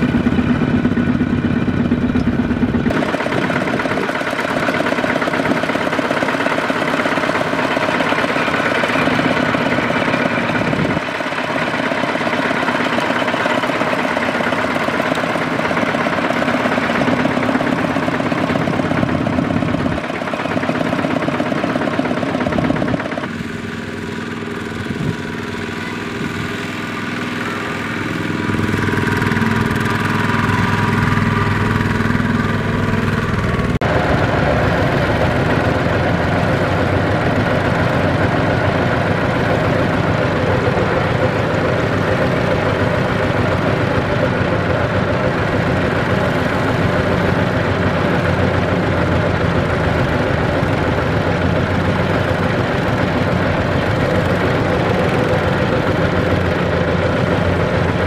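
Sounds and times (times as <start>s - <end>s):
diesel engine running: 0.0s - 58.0s
tractor churning through mud: 0.0s - 58.0s.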